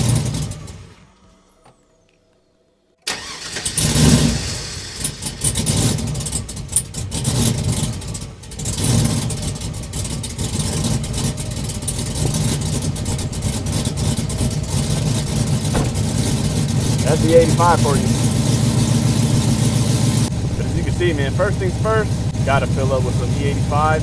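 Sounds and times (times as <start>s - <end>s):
truck engine choppy idle: 0.0s - 1.2s, 3.1s - 24.0s.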